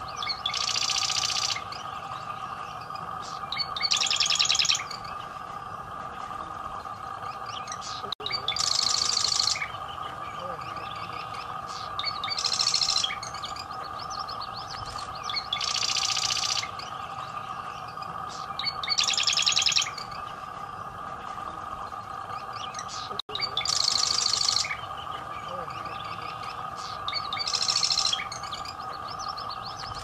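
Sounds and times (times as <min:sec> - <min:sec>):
bird rattling trills: 0:00.0 - 0:30.0.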